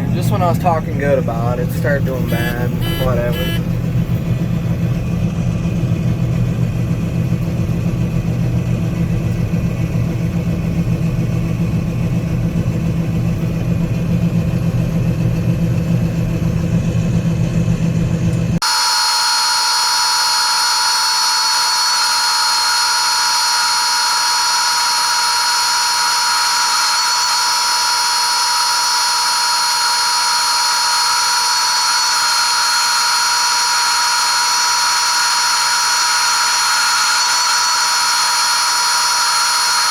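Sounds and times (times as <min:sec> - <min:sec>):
combine engine hum: 0:00.0 - 0:39.9
high-pitched whine: 0:00.0 - 0:39.9.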